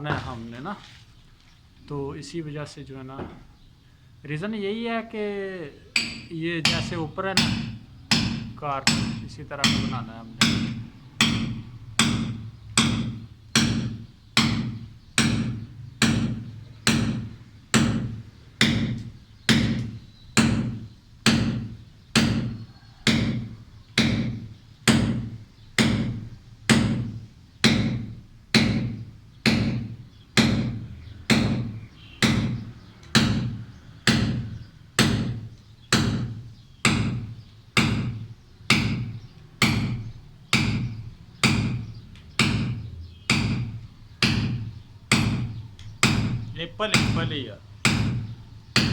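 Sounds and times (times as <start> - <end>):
hammer striking steel chisel: 6.0 - 48.9.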